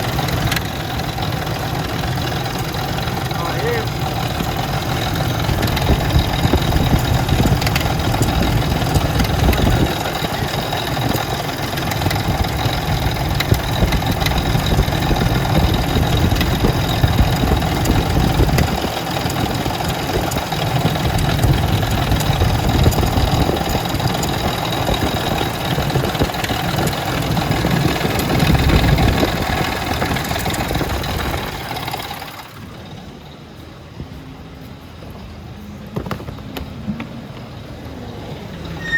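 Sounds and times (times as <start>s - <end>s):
engine rumbling: 0.0s - 38.9s.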